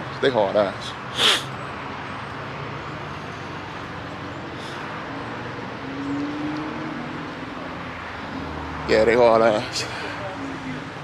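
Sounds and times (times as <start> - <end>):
traffic noise: 0.0 - 11.0
car engine rising: 2.0 - 11.0.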